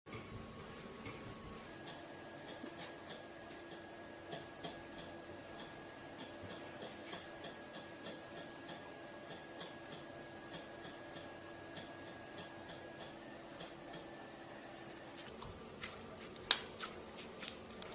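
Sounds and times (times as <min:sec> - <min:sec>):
faint steady hum: 0:00.1 - 0:17.9.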